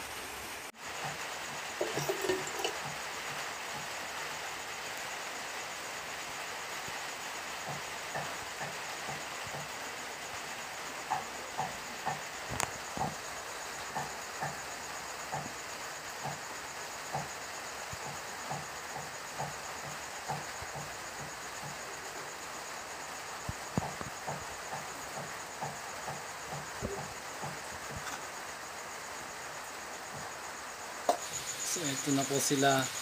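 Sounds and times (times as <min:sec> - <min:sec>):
background hiss: 0:00.0 - 0:33.0
high insect trill: 0:00.0 - 0:33.0.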